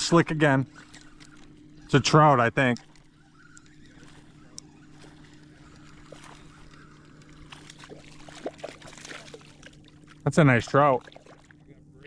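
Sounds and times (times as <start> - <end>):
faint water movement: 0.0 - 12.0
steady low hum: 0.0 - 12.0.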